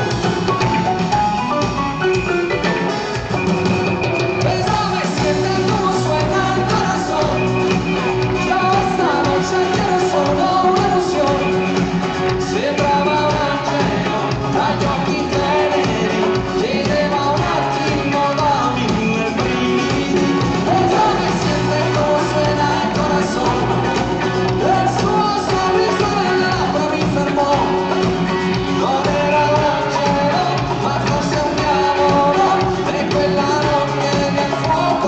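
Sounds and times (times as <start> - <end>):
pop-rock band with singing: 0.0 - 35.0.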